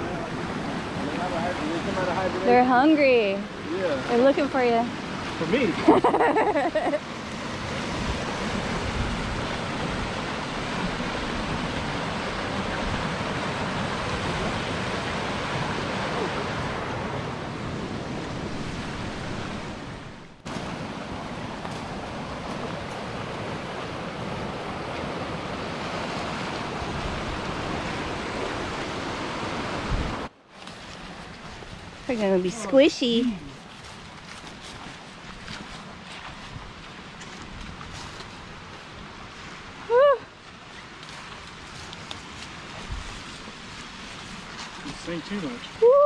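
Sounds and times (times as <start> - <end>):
rushing creek and waterfall: 0.0 - 46.0.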